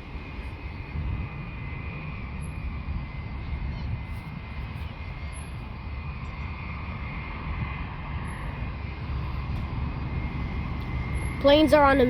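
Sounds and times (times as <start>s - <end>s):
aircraft engines rumbling: 0.0s - 12.0s
high engine whine: 0.0s - 12.0s.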